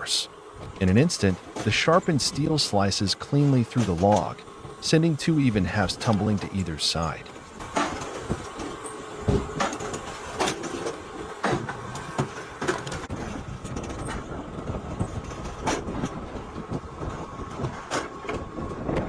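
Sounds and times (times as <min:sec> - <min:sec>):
log splitter humming: 0:00.0 - 0:19.0.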